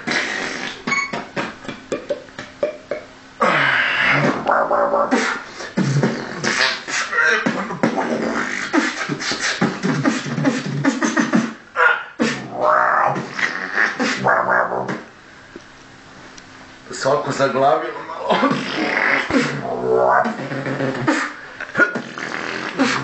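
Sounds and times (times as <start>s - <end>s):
man beatboxing: 0.0s - 15.1s, 18.0s - 23.0s.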